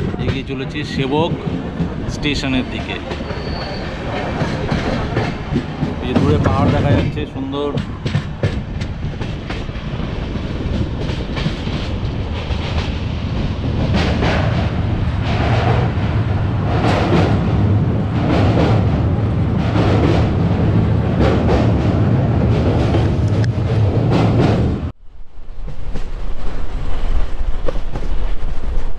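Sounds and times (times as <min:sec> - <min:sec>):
train wheels rumbling: 0:00.0 - 0:28.9.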